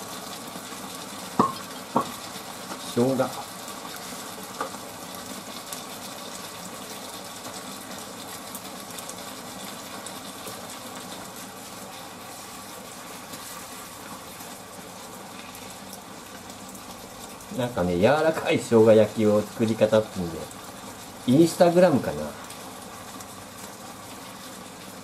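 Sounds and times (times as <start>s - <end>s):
meat and onions sizzling in pan: 0.0s - 25.0s.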